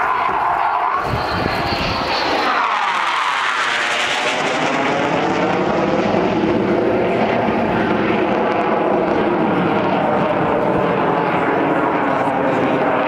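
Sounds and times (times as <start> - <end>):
jet flying past overhead: 0.0 - 13.0.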